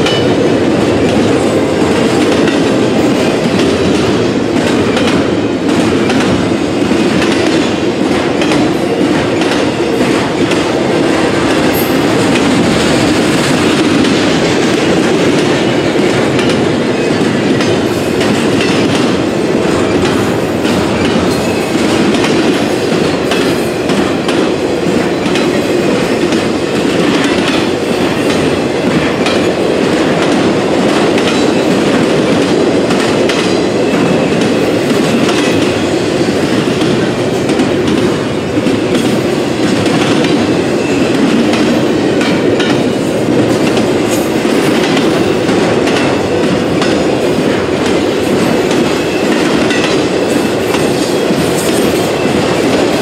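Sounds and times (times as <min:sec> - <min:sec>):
freight train rumbling past: 0:00.0 - 0:53.0
steel wheels clicking over rail joints: 0:00.0 - 0:53.0.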